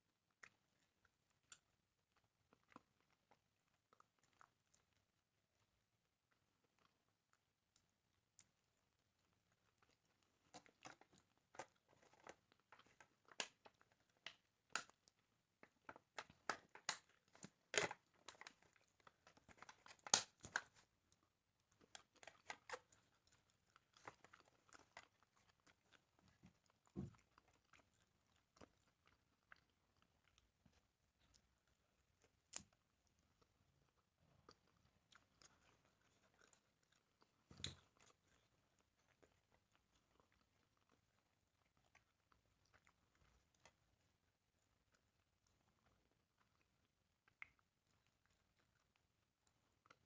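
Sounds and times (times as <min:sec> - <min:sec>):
chewing and biting chicken: 0:00.3 - 0:50.0.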